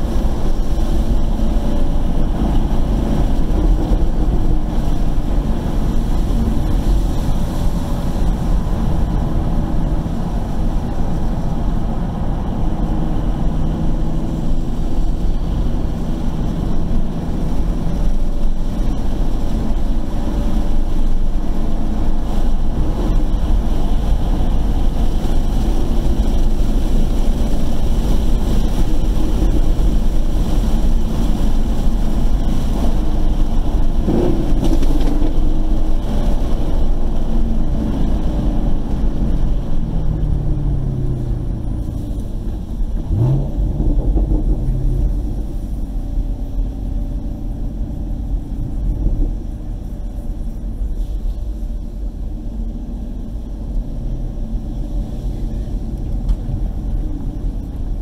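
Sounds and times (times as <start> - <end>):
car engine at mid revs: 0.0 - 58.0
tyre and wind noise: 0.0 - 58.0.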